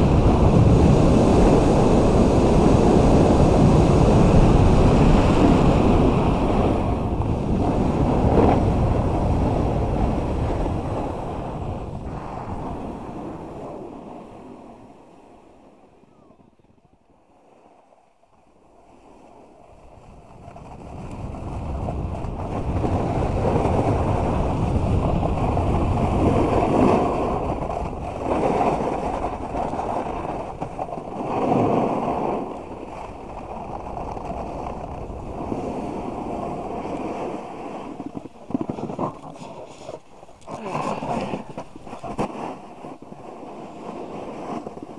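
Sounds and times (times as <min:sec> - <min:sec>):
snowboard scraping over snow: 0:00.0 - 0:15.9, 0:17.2 - 0:44.9
wind rushing on microphone: 0:00.0 - 0:17.2, 0:19.6 - 0:44.9.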